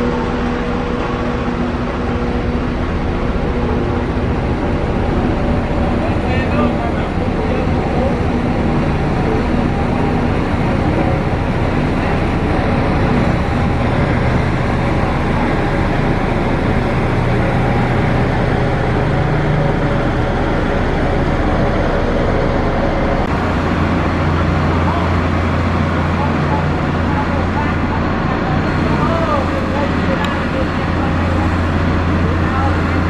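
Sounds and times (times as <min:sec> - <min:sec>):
motor grader diesel engine drone: 0:00.0 - 0:33.0.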